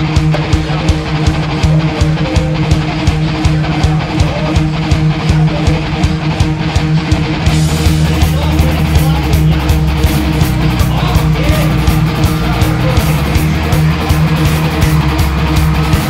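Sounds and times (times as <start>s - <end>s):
guitar rock music: 0.0s - 16.0s.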